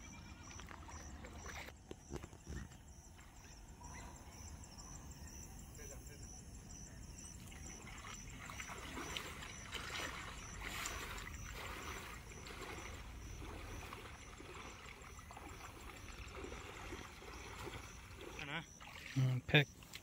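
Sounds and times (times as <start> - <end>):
water sloshing and splashing: 0.0 - 3.9, 7.2 - 20.0.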